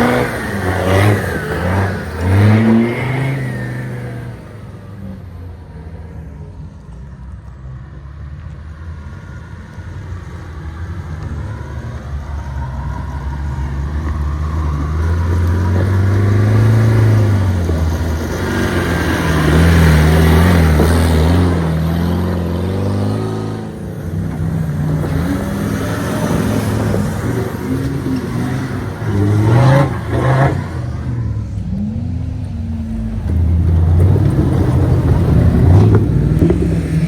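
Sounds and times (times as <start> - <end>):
race car engine revving: 0.0 - 5.3, 10.0 - 37.0.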